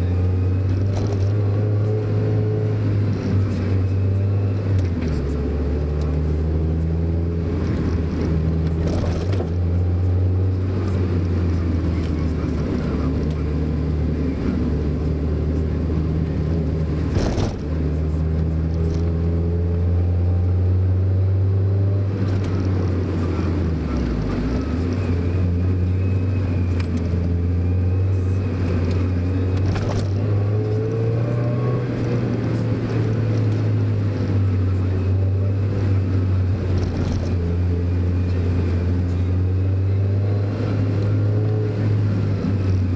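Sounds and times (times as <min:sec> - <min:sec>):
car engine running: 0:00.0 - 0:42.9
road noise: 0:00.0 - 0:42.9.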